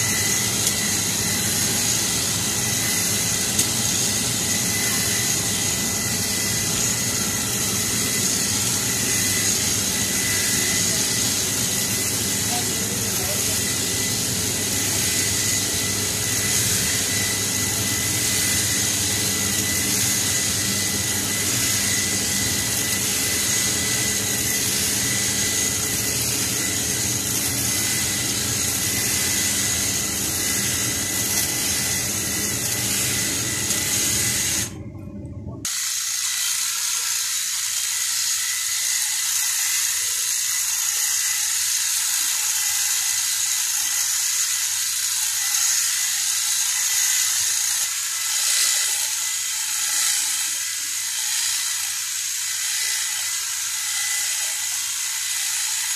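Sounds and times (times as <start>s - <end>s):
hedge trimmer buzzing: 0.0s - 34.8s, 45.1s - 55.9s.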